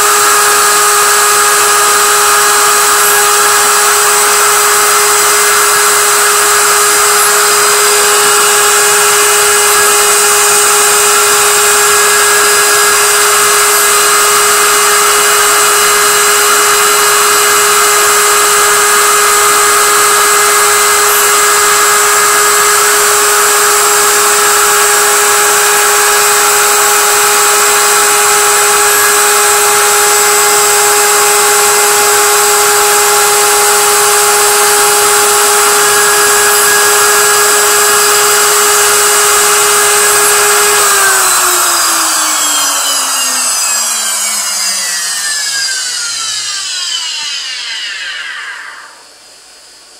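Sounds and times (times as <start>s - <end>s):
milling machine spindle whine: 0.0s - 49.9s.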